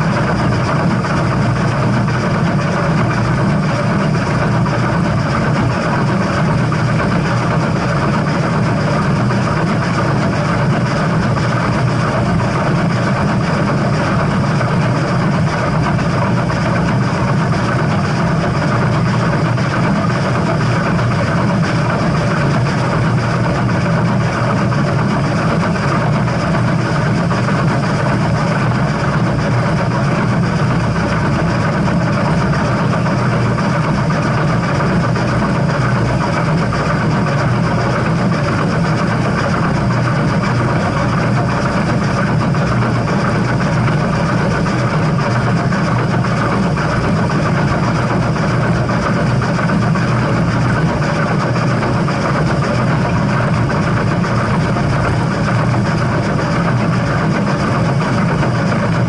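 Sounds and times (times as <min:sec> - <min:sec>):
steam train rumble: 0:00.0 - 0:59.0.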